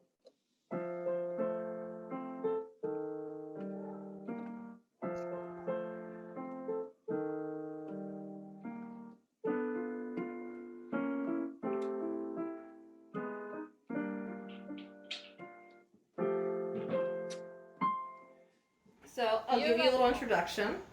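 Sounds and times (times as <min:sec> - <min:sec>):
piano chords: 0:00.7 - 0:18.6.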